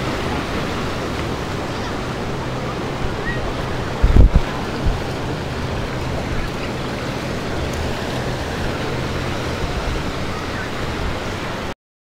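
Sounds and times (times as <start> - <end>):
wind rumbling on microphone: 0.0 - 11.7
ocean surf: 0.0 - 11.8.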